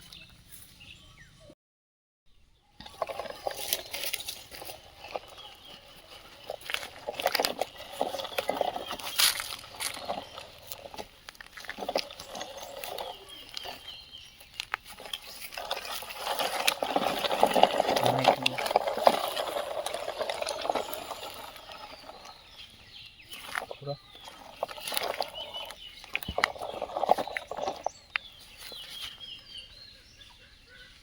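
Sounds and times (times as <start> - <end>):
rocks clattering on toy trucks: 2.8 - 29.4
stones sliding and pouring: 2.8 - 29.4.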